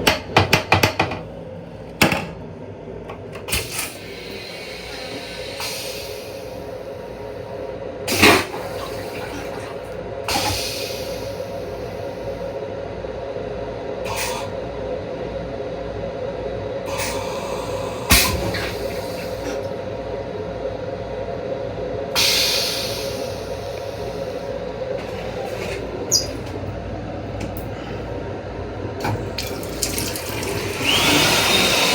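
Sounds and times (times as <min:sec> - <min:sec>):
steady hum: 0:00.0 - 0:31.9.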